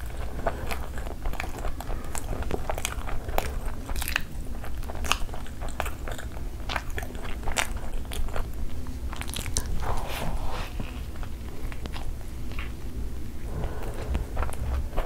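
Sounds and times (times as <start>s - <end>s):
person chewing crunchy wrap: 0.0s - 15.0s.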